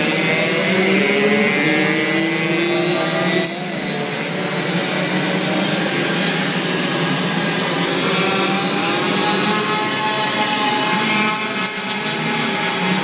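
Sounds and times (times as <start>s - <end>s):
racing moped engines buzzing: 0.0s - 13.0s.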